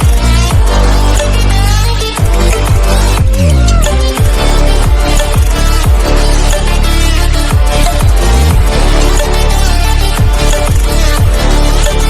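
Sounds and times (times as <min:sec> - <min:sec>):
electronic dance music: 0:00.0 - 0:12.0
falling bass sweep: 0:00.0 - 0:12.0.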